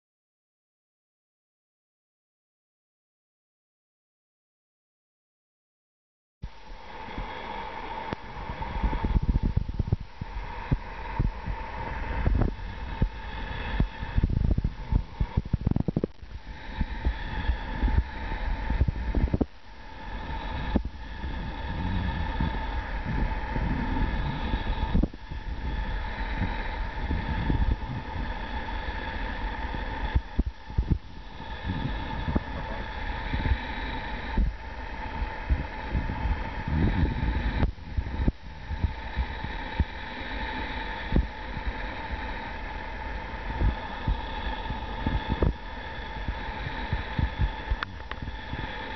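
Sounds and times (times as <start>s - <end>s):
faint steady hum: 6.4s - 48.9s
wind rumble on microphone: 6.4s - 48.9s.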